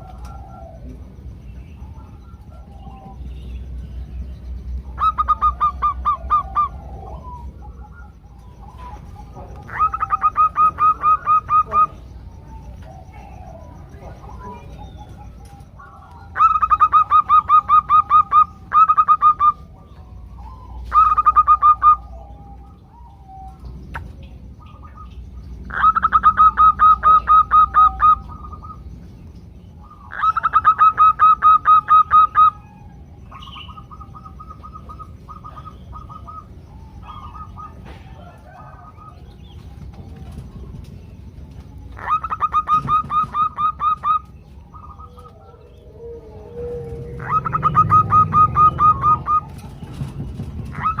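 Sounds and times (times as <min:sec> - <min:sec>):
doves giving staccato calls: 0:00.0 - 0:51.0.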